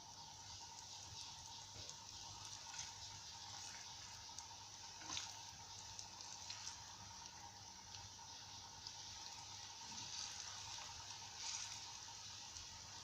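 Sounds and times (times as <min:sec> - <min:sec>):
eggs frying in hot oil: 0:00.0 - 0:13.0
oil popping: 0:00.4 - 0:13.0.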